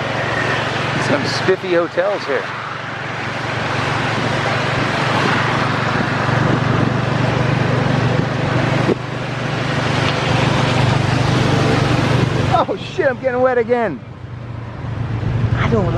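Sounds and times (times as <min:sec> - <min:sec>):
vehicle engine running: 0:00.0 - 0:15.9
water on flooded road: 0:00.0 - 0:15.9.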